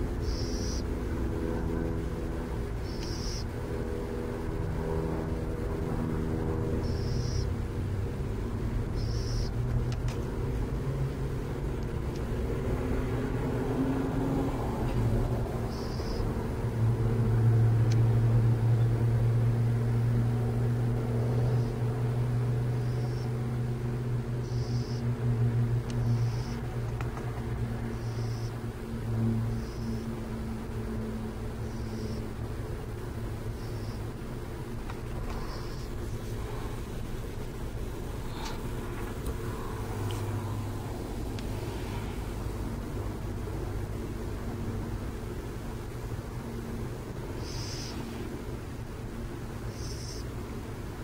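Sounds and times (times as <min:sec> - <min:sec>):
vehicle engine humming: 0:00.0 - 0:51.0.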